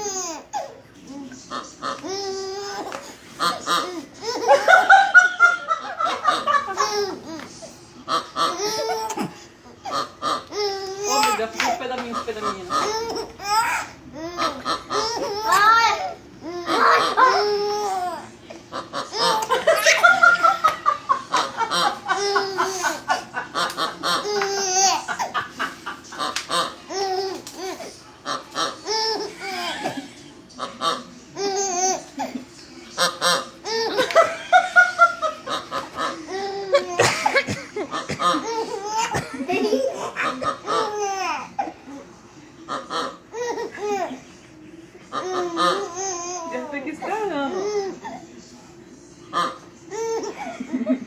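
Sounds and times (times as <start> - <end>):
baby laughing: 0.0 - 28.0, 28.6 - 30.2, 30.8 - 42.0, 42.8 - 44.3, 45.2 - 48.2, 49.4 - 50.6.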